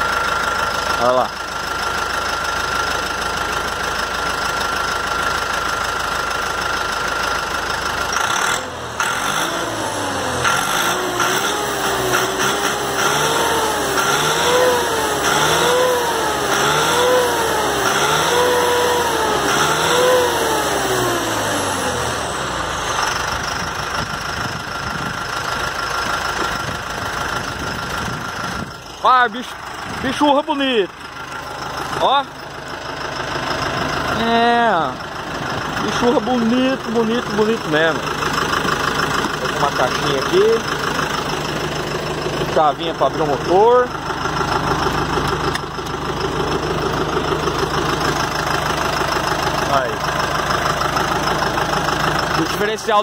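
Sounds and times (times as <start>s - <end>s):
tractor diesel engine revving: 0.0s - 53.0s.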